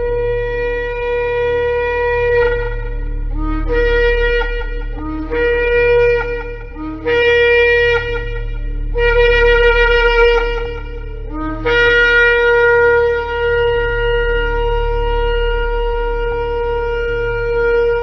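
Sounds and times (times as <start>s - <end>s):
shofar blasts: 0.0s - 18.0s.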